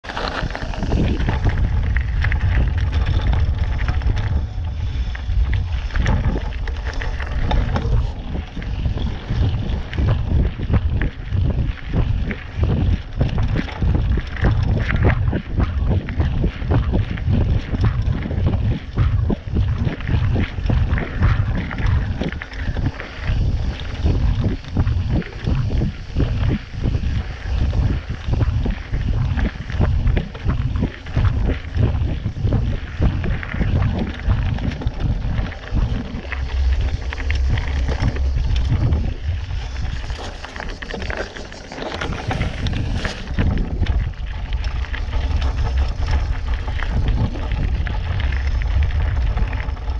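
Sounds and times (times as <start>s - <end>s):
bike rattling: 0.0s - 49.9s
tyres crunching on gravel: 0.0s - 49.9s
wind buffeting microphone: 0.0s - 49.9s.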